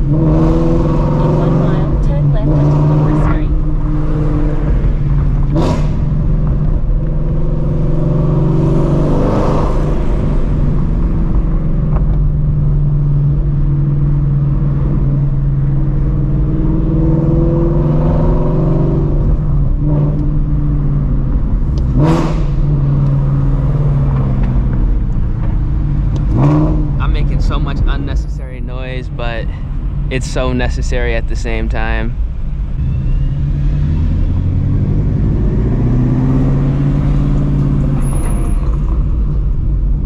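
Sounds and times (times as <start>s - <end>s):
loud car exhaust rumbling: 0.0s - 40.0s.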